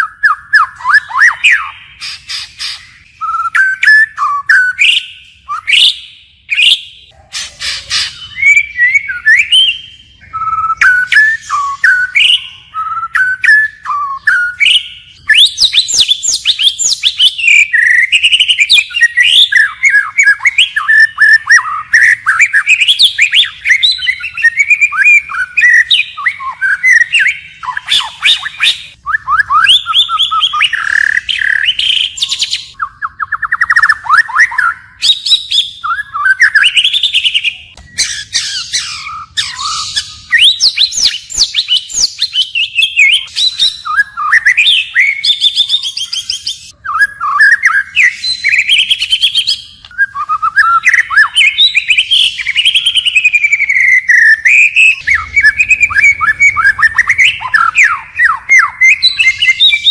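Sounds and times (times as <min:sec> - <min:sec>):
songbird whistling phrases: 0:00.0 - 0:59.9.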